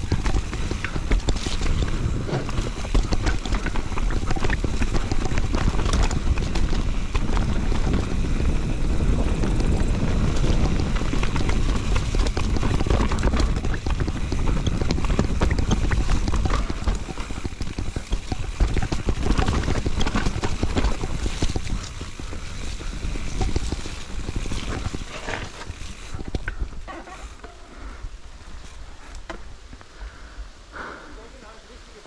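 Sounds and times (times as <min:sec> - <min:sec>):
wind buffeting microphone: 0:00.0 - 0:26.9
bike clattering over rough trail: 0:00.0 - 0:30.0.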